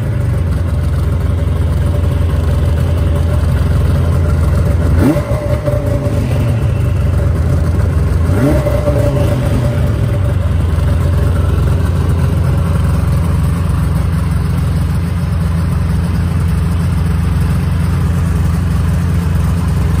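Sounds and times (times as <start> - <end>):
two-stroke engine idling: 0.0 - 20.0.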